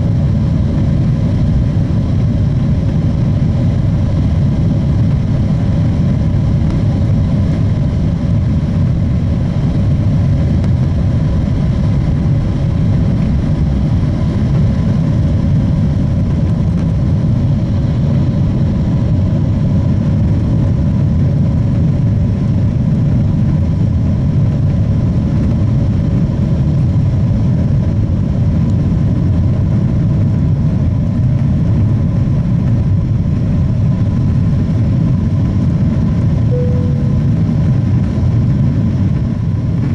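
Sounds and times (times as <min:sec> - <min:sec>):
jet engines roaring in cabin: 0:00.0 - 0:39.9.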